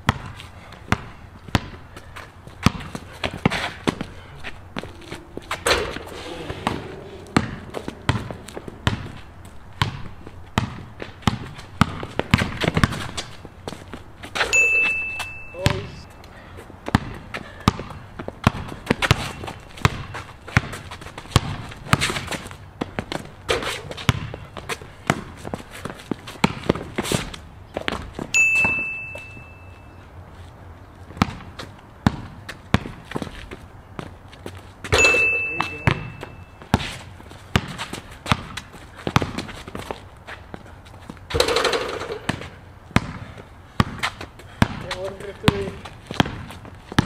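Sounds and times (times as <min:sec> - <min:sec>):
basketball bouncing on concrete: 0:00.0 - 0:04.1, 0:04.8 - 0:16.0, 0:16.8 - 0:29.8, 0:31.1 - 0:34.1, 0:34.8 - 0:40.1, 0:41.3 - 0:47.0.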